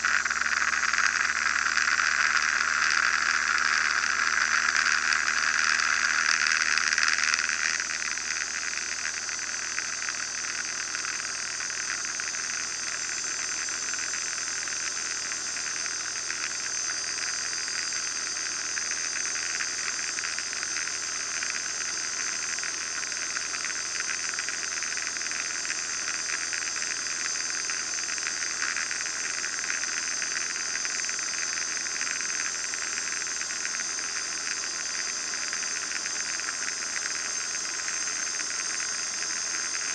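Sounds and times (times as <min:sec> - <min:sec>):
thin high whine: 0:00.0 - 0:39.9.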